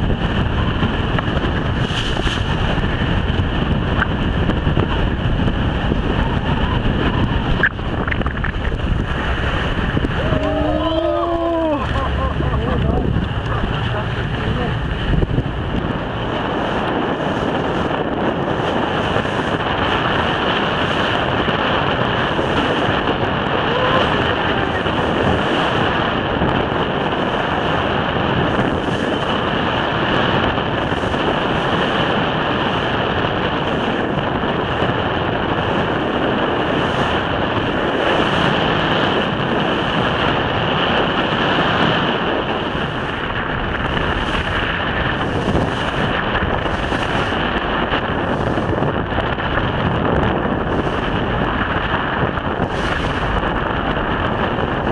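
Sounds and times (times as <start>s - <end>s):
boat moving through choppy sea: 0.0s - 54.9s
waves washing: 0.0s - 54.9s
wind on microphone: 0.0s - 54.9s.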